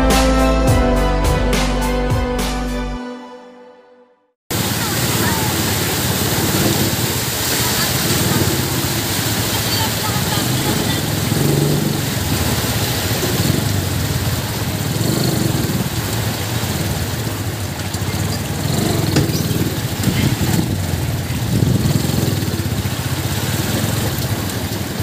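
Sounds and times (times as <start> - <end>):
small motorcycle engine running: 4.5 - 25.0
water sloshing and splashing: 4.5 - 25.0.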